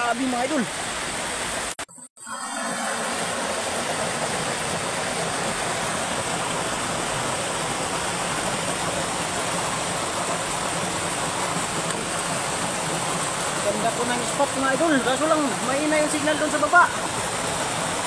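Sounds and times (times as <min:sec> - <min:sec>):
water rushing down spillway: 0:00.0 - 0:18.0.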